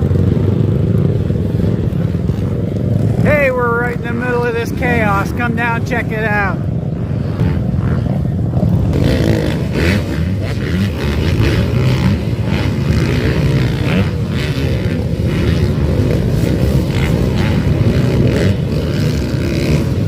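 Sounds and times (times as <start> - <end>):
motocross bike engines racing: 0.0 - 20.0.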